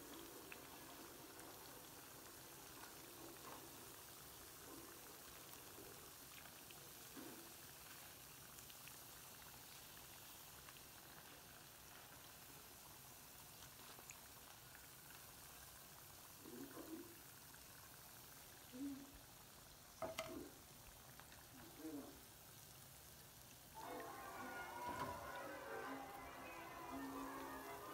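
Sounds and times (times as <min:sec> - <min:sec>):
doughnuts sizzling in hot oil: 0:00.0 - 0:27.9.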